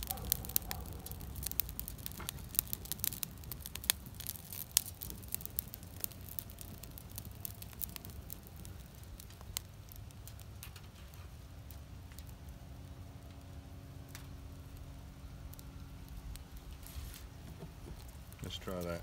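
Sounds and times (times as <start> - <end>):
leaves burning crackling and popping: 0.0 - 19.0.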